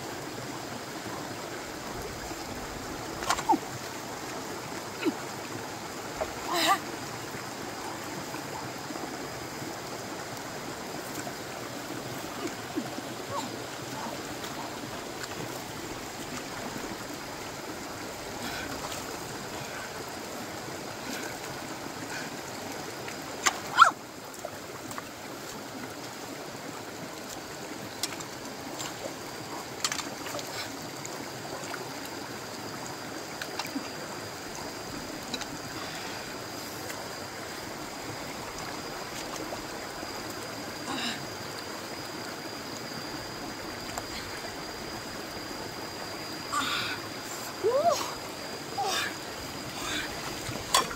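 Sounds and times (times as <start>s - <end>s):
stream flowing over rocks: 0.0s - 50.9s.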